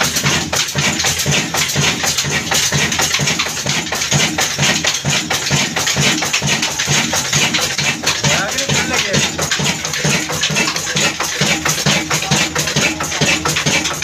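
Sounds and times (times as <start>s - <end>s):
diesel engine rhythmic clatter: 0.0s - 14.0s.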